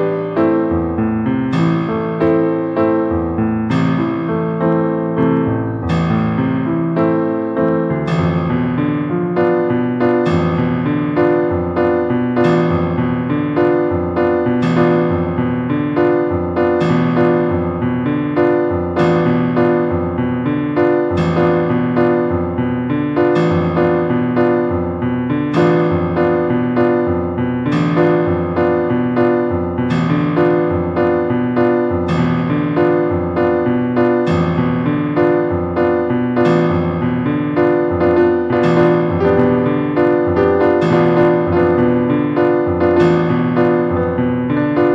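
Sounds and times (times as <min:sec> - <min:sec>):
piano background music: 0:00.0 - 0:44.9.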